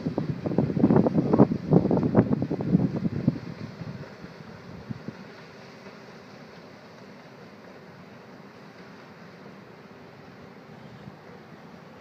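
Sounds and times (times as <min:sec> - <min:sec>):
ship rumbling under way: 0:00.0 - 0:12.0.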